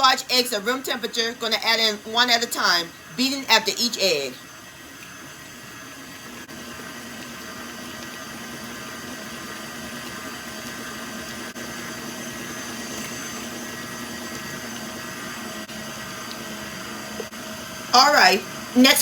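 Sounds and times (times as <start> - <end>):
stand mixer running: 0.0 - 19.0.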